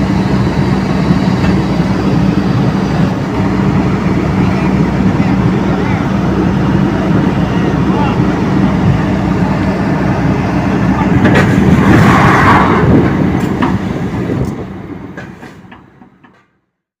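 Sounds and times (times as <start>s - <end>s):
diesel engine droning: 0.0s - 16.6s.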